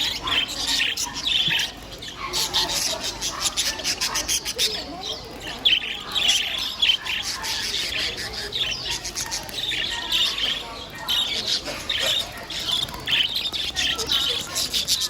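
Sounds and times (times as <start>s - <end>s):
caged birds chirping and squawking: 0.0s - 15.0s.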